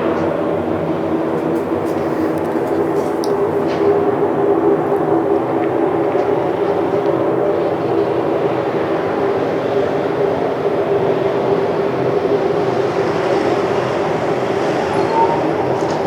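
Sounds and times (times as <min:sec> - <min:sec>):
loud droning hum: 0:00.0 - 0:16.0.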